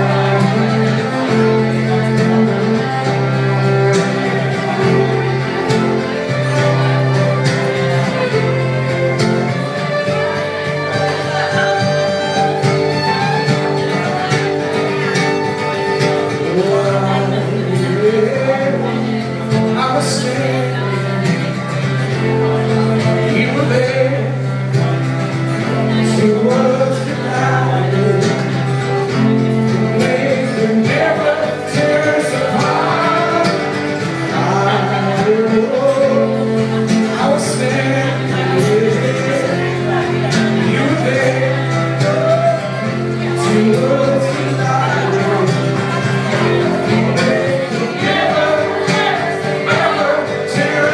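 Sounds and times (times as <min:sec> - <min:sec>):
man singing: 0:00.0 - 0:15.2, 0:15.8 - 0:50.9
acoustic guitar strumming: 0:00.0 - 0:50.9.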